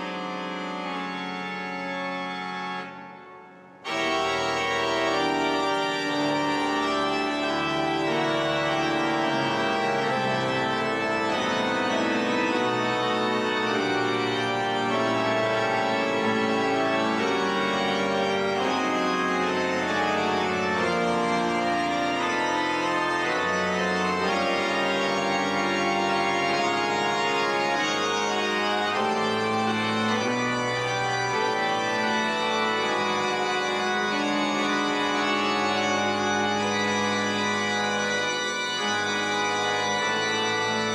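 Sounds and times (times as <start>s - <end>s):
pipe organ playing chords: 0.0s - 40.9s.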